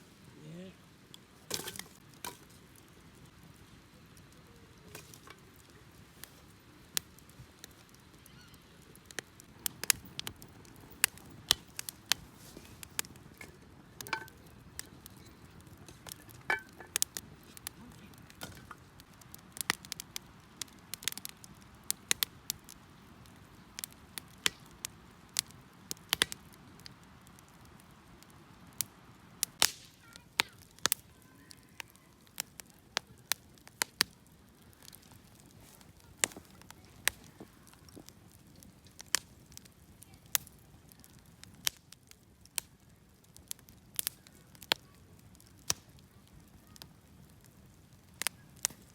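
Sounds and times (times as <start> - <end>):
faint low hiss: 0.0 - 48.9
wood fire crackling: 0.0 - 48.9.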